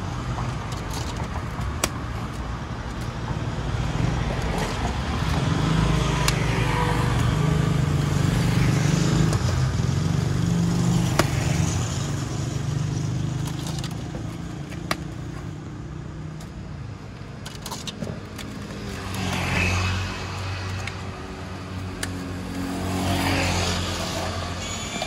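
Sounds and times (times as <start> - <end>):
vehicle engines passing: 0.0 - 25.0.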